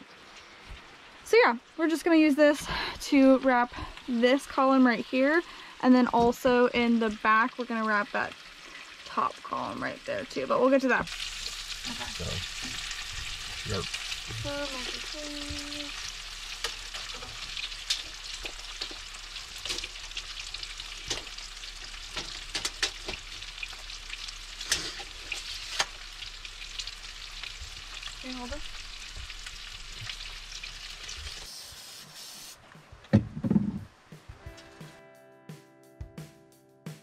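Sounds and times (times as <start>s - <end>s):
food sizzling in a frying pan: 0.0s - 32.6s.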